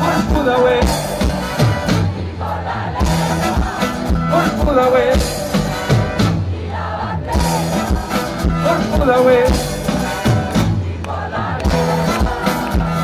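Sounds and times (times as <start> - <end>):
folk-rock band playing: 0.0 - 13.0.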